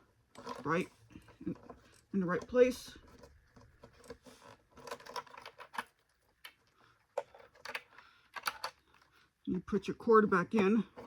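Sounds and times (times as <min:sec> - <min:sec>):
plastic parts clicking and tapping: 0:00.3 - 0:09.2.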